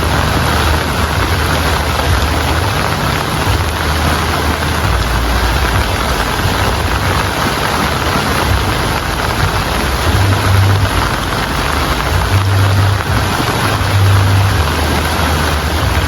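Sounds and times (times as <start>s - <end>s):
heavy rain falling: 0.0s - 16.0s
low rumble: 0.0s - 16.0s.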